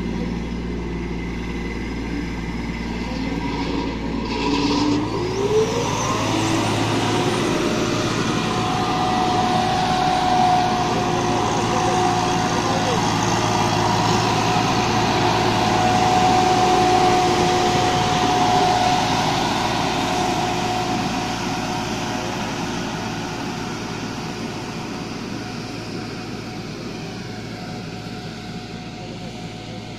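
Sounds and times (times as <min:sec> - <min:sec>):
tractor and sprayer whine: 0:00.0 - 0:29.9.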